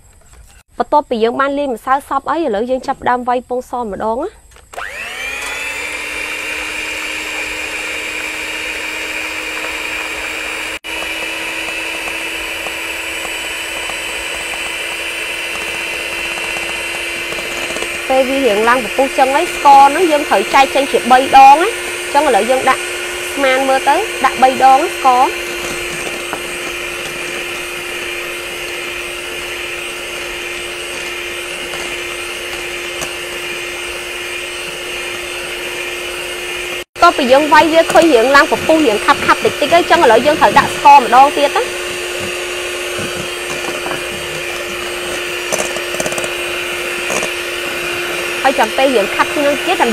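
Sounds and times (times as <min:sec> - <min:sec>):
electric hand mixer whining: 0:04.6 - 0:49.9.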